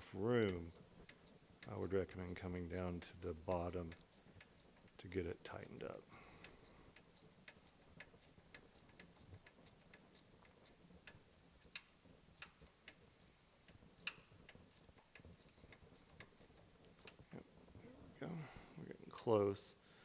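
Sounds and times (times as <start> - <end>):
faint even ticking: 0.0 - 20.0.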